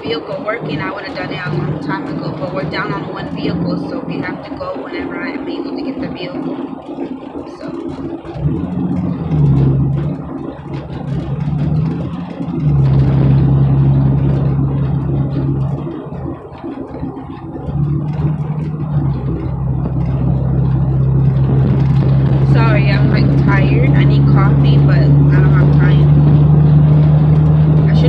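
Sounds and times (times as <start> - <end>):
car cabin engine and road noise: 0.0 - 28.0.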